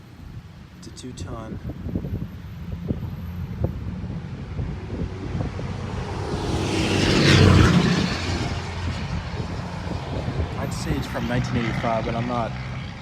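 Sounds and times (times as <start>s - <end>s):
vehicle passing by: 1.6s - 13.0s.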